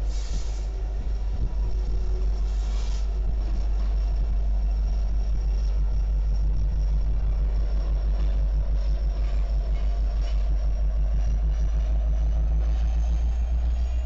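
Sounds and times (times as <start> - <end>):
diesel locomotive rumbling past: 0.0 - 14.0.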